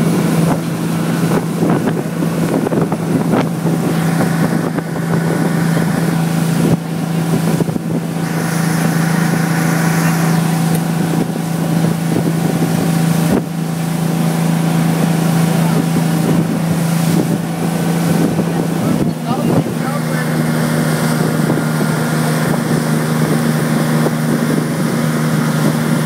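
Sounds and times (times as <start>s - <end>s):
motorboat engine drone: 0.0s - 26.0s
wind buffeting microphone: 0.0s - 26.0s.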